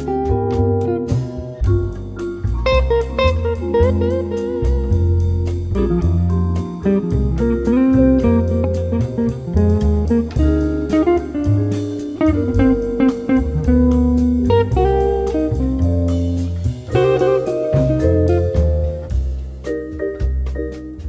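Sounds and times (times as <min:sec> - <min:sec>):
held bass line: 0:00.0 - 0:21.0
plucked blues guitar: 0:00.0 - 0:21.0.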